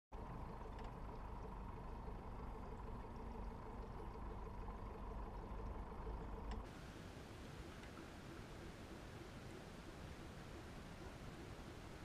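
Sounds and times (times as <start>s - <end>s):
outboard motor running: 0.2s - 12.0s.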